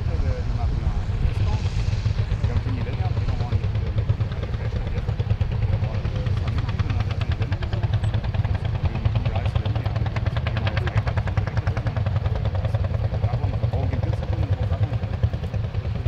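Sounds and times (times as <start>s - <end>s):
tractor engines chugging: 0.0s - 16.0s.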